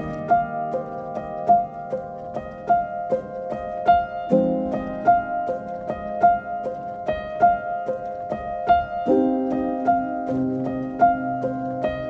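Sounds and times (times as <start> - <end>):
light piano melody: 0.0 - 12.0.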